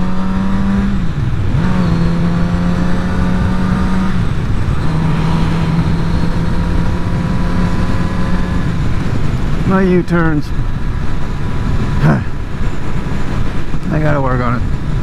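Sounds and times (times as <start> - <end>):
motorcycle engine running: 0.0 - 15.0
road rush: 0.0 - 15.0
wind: 0.0 - 15.0.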